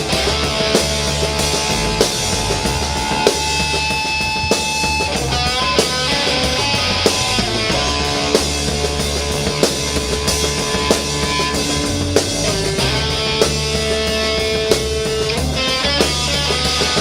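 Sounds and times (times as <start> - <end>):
electric guitar long notes: 0.0 - 17.0
hard drum hits: 0.0 - 17.0
heavy rock music: 0.0 - 17.0.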